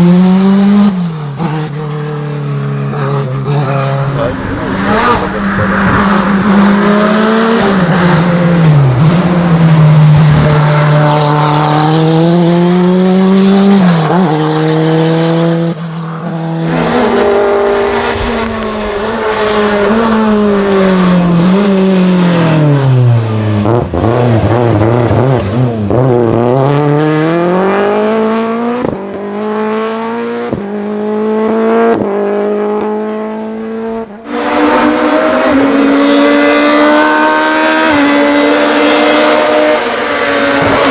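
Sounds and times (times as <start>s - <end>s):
racing car engine revving: 3.7s - 40.9s.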